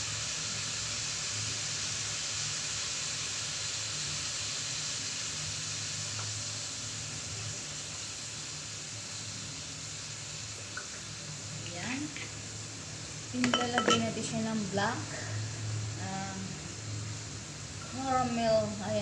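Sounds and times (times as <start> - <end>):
gas burner hissing: 0.0 - 19.0.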